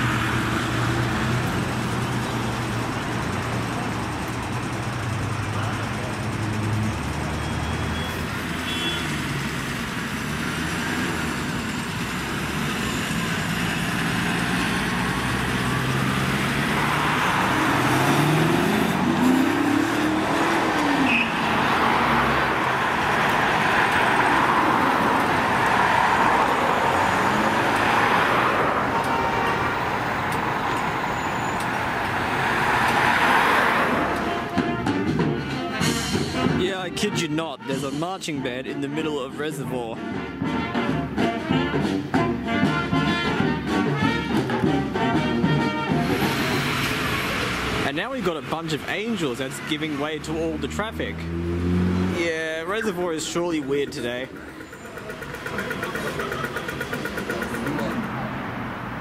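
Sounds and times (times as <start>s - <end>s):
bus engine pulling away: 0.0s - 59.0s
car engines and tyre noise: 0.0s - 59.0s.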